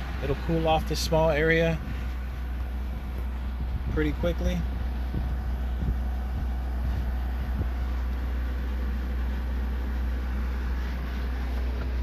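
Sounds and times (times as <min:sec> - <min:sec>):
air conditioner compressor hum: 0:00.0 - 0:12.0
fan air noise: 0:00.0 - 0:12.0.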